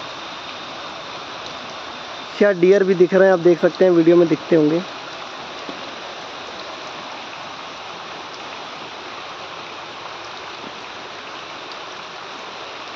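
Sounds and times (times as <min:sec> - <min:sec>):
rain falling on puddles: 0:00.0 - 0:12.9.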